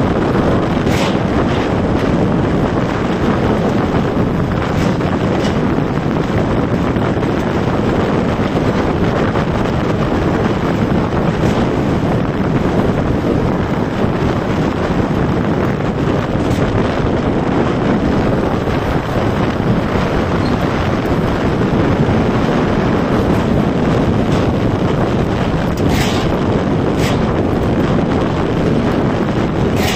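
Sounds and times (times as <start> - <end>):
wind rushing over microphone: 0.0 - 29.9.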